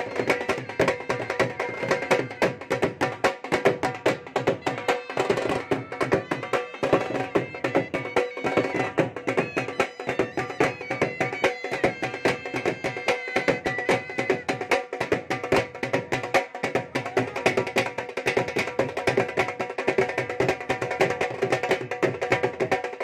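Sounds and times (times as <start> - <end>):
dhol drums beating fast: 0.0 - 23.0.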